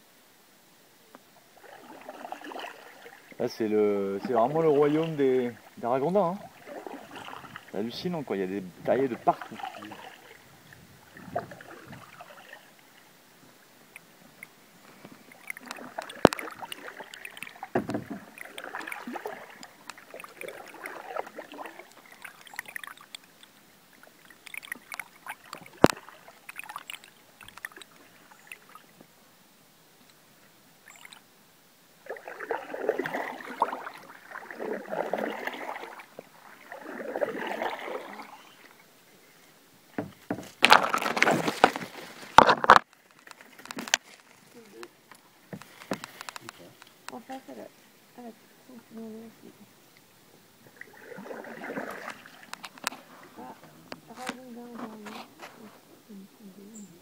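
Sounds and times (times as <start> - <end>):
paddle splashing in water: 1.4 - 29.0, 32.0 - 38.9, 39.8 - 47.4, 50.0 - 55.9.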